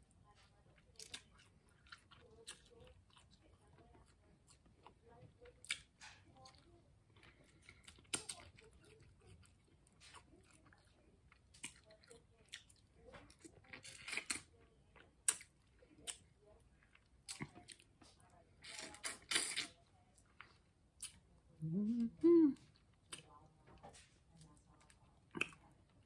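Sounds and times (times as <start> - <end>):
person chewing and smacking: 0.2 - 26.0.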